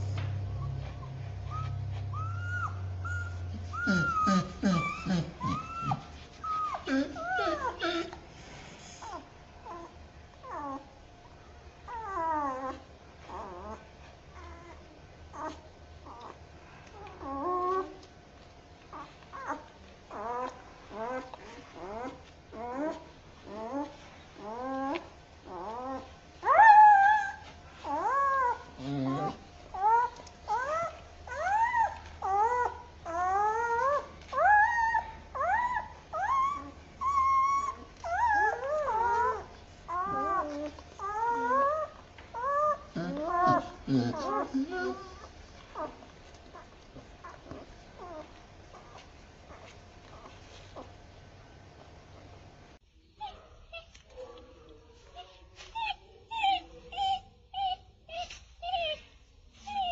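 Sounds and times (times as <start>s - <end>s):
puppy whining slowed down: 0.0s - 8.2s, 9.0s - 18.1s, 18.9s - 49.0s, 55.2s - 59.9s.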